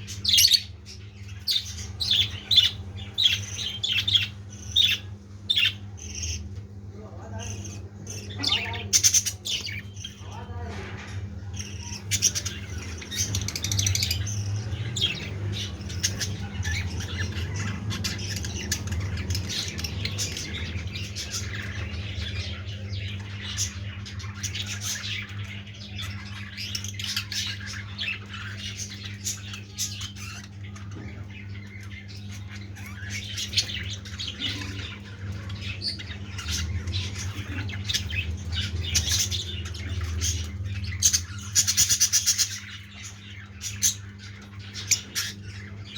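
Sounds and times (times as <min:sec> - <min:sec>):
lovebirds chirping and squawking: 0:00.0 - 0:45.9
steady low hum: 0:00.0 - 0:45.9.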